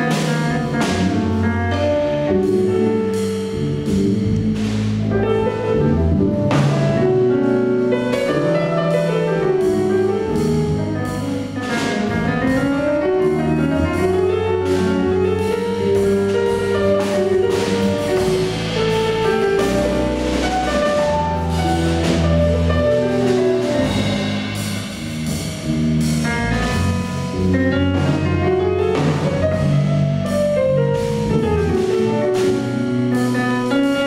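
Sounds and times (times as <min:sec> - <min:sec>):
grand piano: 0:00.0 - 0:34.0
jazz combo playing: 0:00.0 - 0:34.0.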